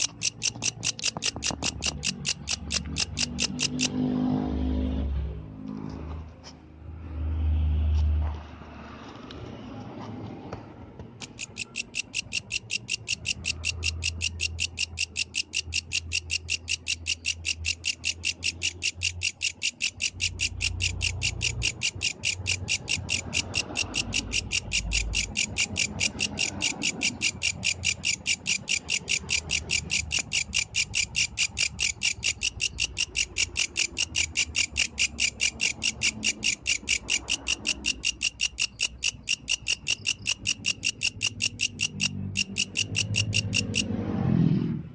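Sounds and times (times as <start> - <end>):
grasshopper chirping: 0.0 - 4.1, 11.2 - 44.0.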